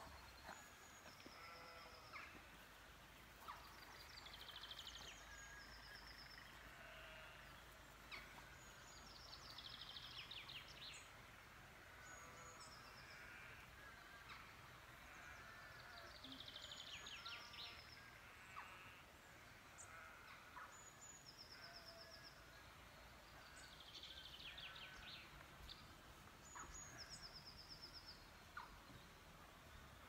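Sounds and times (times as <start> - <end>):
faint songbirds singing: 0.0 - 30.0.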